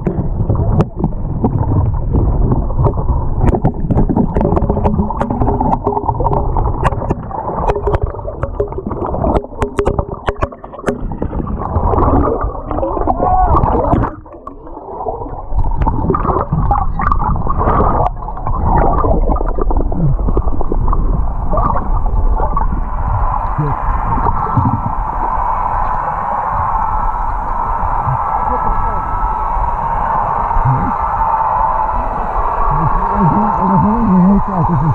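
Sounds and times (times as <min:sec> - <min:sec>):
underwater gurgling and bubbles: 0:00.0 - 0:34.9.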